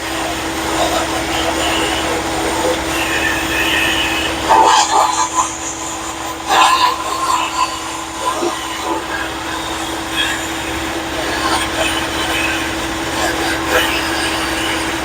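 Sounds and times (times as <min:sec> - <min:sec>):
hissing compressed air blasting grit: 0:00.0 - 0:15.0
vacuum droning: 0:00.0 - 0:15.0.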